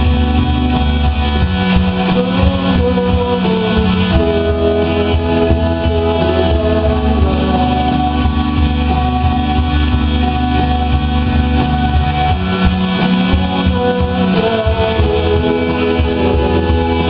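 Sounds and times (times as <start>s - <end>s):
electric guitar: 0.0s - 17.0s
live rock band playing: 0.0s - 17.0s.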